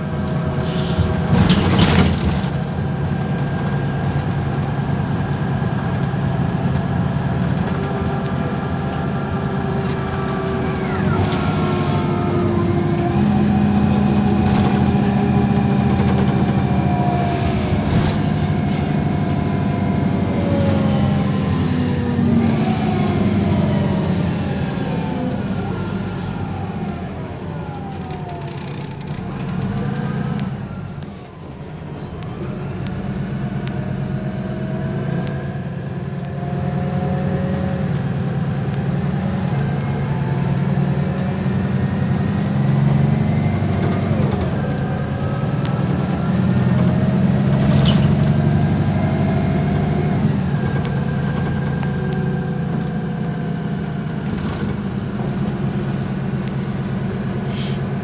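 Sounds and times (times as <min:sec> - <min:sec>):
bus engine running with whine: 0:00.0 - 0:58.0.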